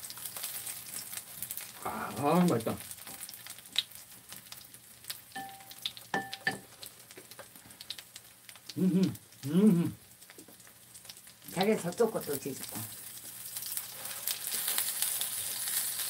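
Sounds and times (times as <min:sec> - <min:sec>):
batter frying in oil: 0:00.0 - 0:16.0.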